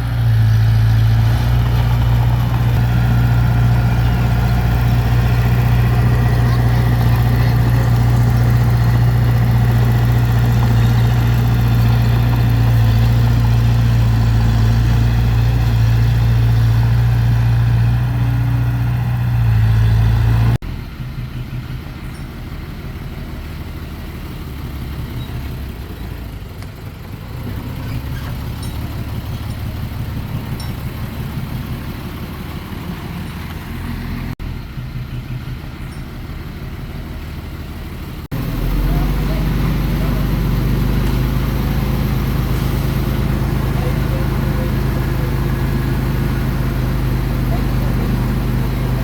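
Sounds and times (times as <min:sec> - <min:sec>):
heavy diesel engine humming: 0:00.0 - 0:49.0
rough engine running: 0:00.0 - 0:49.0.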